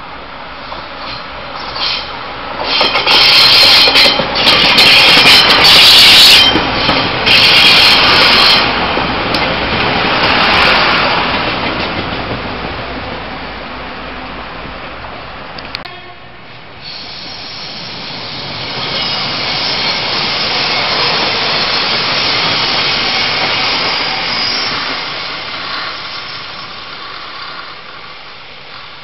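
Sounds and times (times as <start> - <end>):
diesel railcar passing: 0.0 - 29.0.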